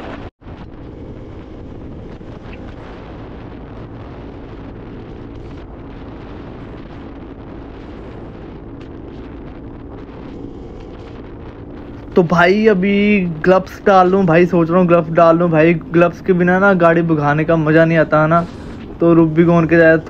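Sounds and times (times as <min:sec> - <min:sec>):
motorcycle engine cruising: 0:00.0 - 0:20.0
wind rushing over microphone: 0:00.0 - 0:20.0.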